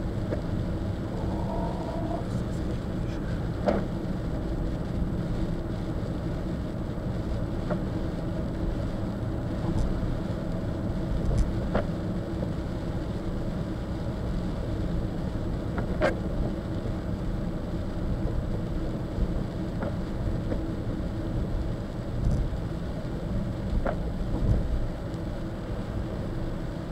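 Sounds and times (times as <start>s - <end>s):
car road and engine rumble: 0.0s - 26.9s.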